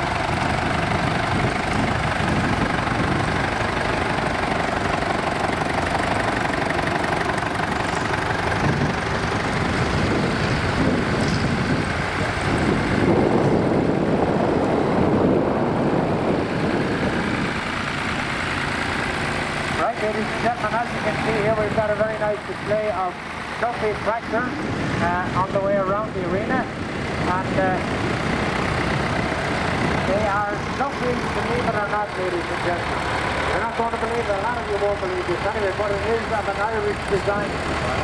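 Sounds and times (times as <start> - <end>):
tractor engines running: 0.0 - 38.0.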